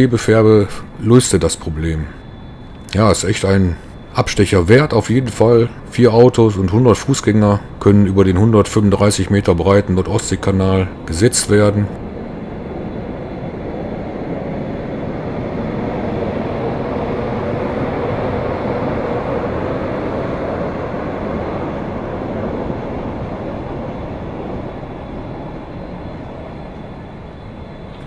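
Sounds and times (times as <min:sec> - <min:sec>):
train rumbling over bridge: 0:00.0 - 0:28.0.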